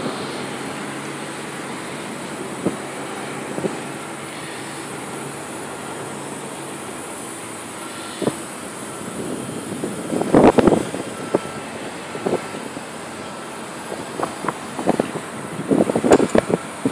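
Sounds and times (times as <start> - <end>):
airfield background noise: 0.0 - 16.9.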